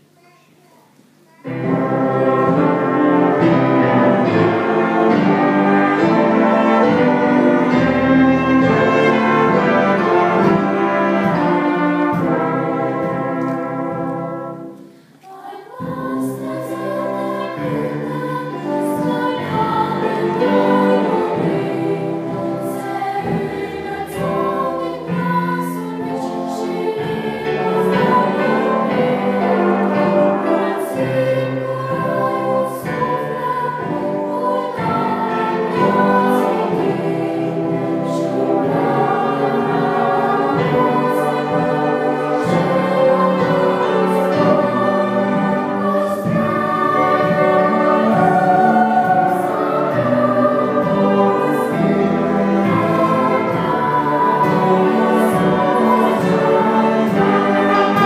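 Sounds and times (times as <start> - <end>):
large choir singing: 1.4 - 58.0.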